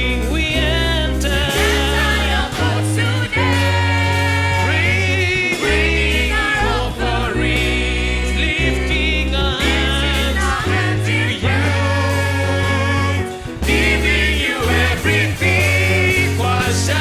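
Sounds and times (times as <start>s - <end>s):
band playing: 0.0s - 17.0s
voices singing gospel: 0.0s - 17.0s.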